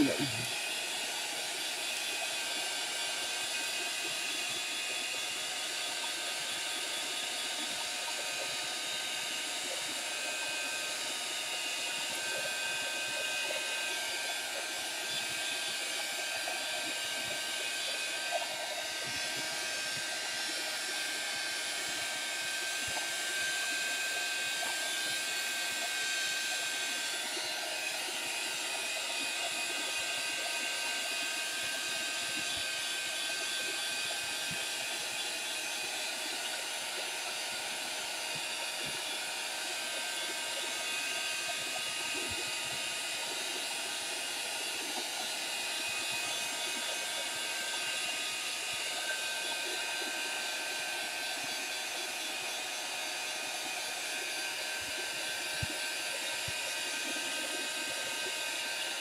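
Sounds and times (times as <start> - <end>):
heat tool blowing hot air: 0.0 - 59.0.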